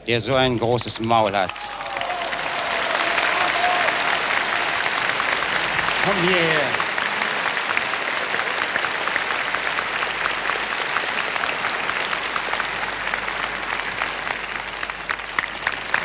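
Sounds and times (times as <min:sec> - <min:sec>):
large audience applauding: 0:00.3 - 0:16.0.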